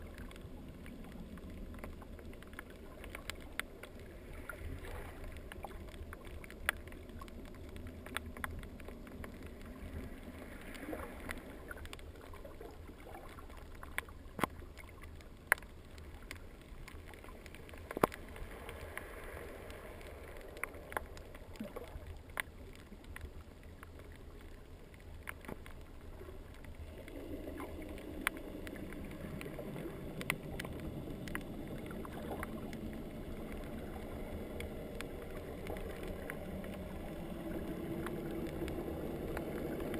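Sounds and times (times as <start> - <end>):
underwater water wash: 0.0 - 39.9.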